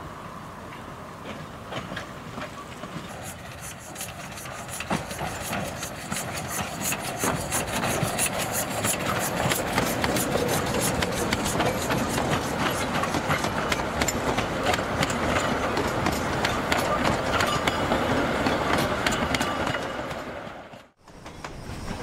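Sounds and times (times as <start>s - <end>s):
steam train passing: 0.0s - 22.0s
wheels clattering on rails: 0.6s - 22.0s.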